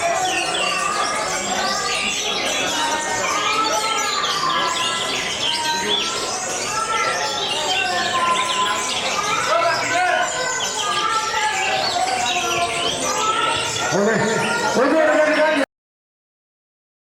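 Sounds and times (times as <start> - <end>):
songbirds singing chorus: 0.0 - 15.6.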